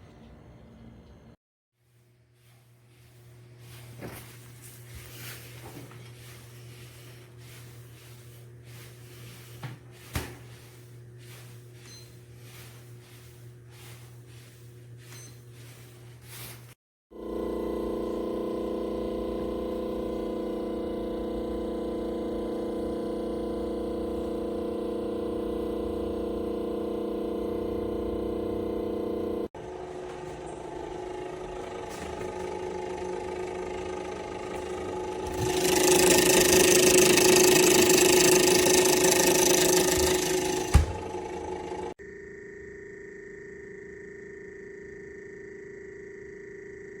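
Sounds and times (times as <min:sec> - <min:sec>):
machine hum: 0:02.2 - 0:16.1, 0:17.1 - 0:47.0.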